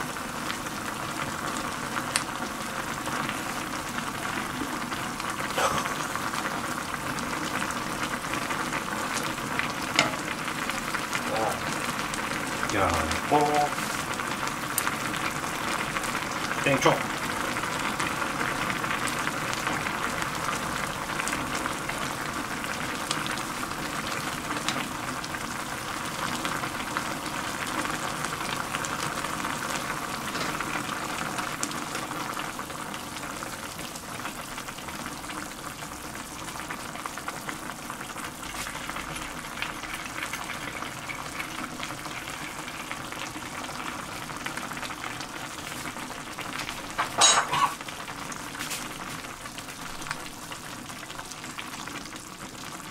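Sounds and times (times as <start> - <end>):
broth boiling and bubbling: 0.0 - 52.9.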